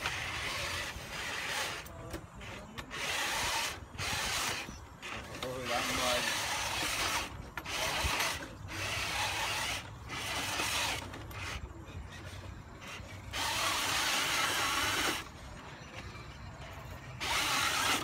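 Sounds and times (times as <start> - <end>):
electric motor and gears whirring: 0.0 - 18.0
wheels spinning in dirt: 0.0 - 18.0.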